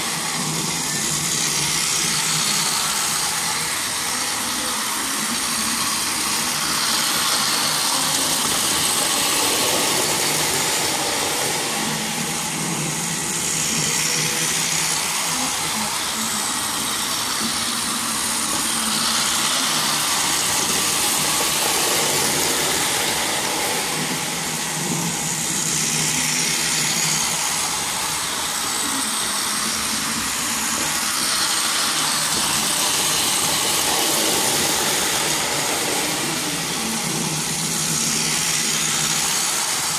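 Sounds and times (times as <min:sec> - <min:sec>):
small electric motor whirring: 0:00.0 - 0:39.9
toy train wheels on rails: 0:00.0 - 0:39.9.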